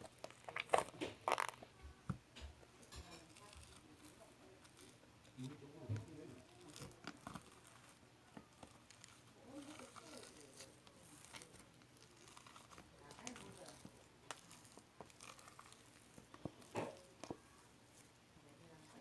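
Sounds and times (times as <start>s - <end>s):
crinkling: 0.0s - 19.0s.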